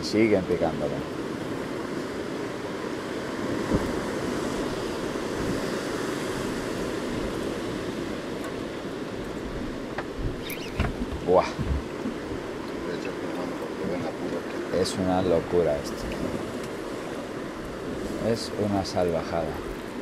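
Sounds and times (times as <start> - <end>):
sea water rushing: 0.0 - 20.0
wind: 0.0 - 20.0.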